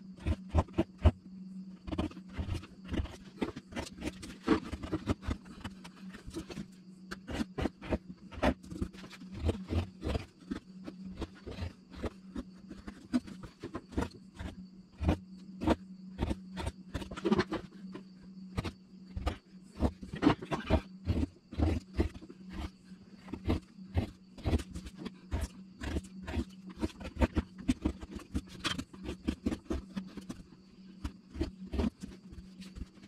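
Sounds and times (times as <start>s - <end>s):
steady low hum: 0.0s - 33.0s
carving gouge cutting wood: 0.2s - 1.2s, 1.8s - 33.0s.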